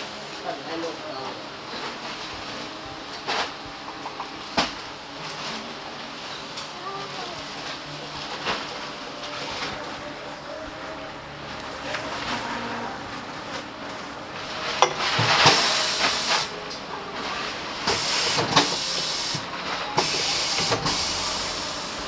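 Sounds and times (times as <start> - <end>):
compressed air hissing: 0.0 - 22.0.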